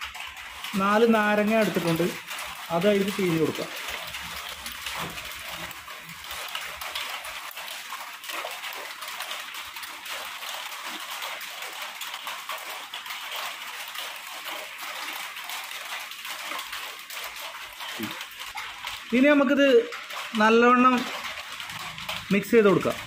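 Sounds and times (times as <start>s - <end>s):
juice dripping into steel bowl: 0.0s - 23.0s.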